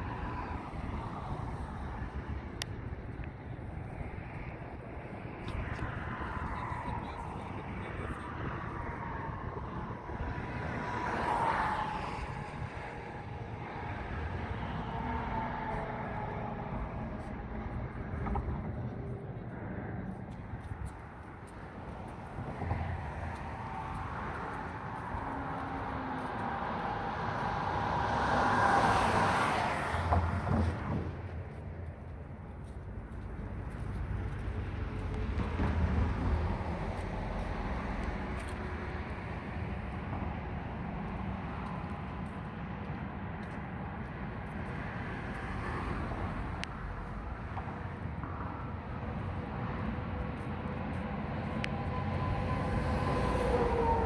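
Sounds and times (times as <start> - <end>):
road vehicle passing by: 0.0 - 54.0.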